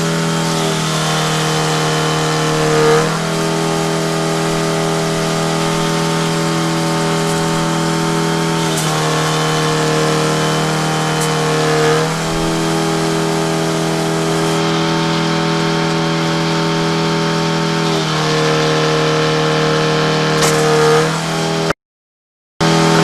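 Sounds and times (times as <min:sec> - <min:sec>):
engine running at high speed: 0:00.0 - 0:21.8, 0:22.6 - 0:23.0.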